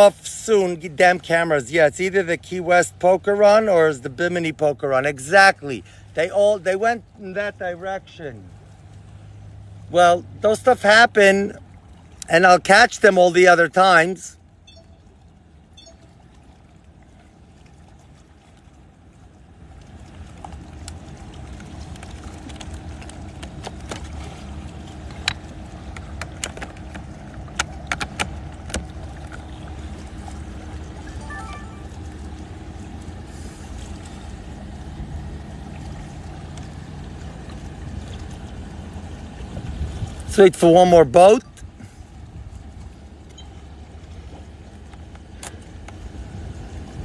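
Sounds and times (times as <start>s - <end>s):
engine low rumble: 0.0s - 47.0s.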